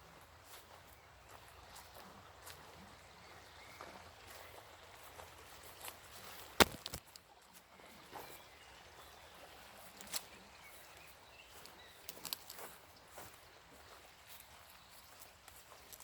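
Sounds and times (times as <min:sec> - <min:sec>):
footsteps on a hiking trail: 0:00.0 - 0:16.0.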